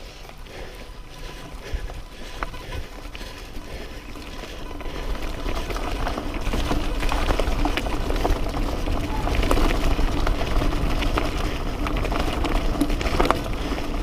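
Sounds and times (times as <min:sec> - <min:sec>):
bike rattles and clicks: 0:00.0 - 0:14.0
bike tyres rumbling on dirt: 0:00.0 - 0:14.0.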